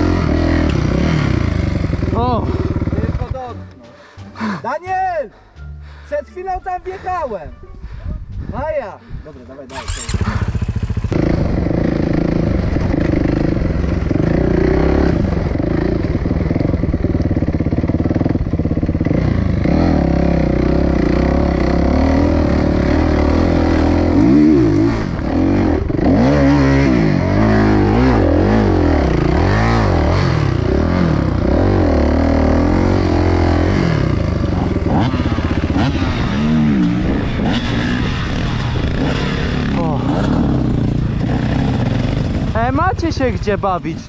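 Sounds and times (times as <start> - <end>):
dirt bike engine revving: 0.0 - 3.4, 9.7 - 43.6.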